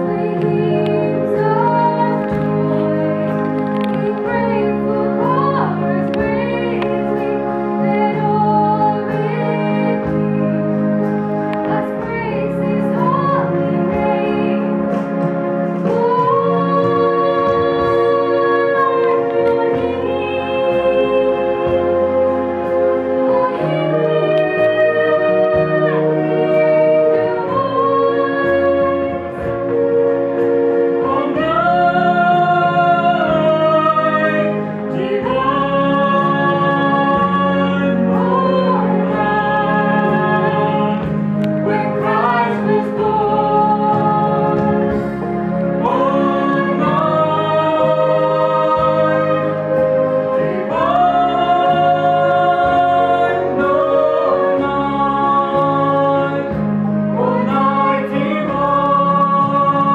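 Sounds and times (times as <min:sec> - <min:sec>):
mixed choir singing a carol: 0:00.0 - 0:59.9.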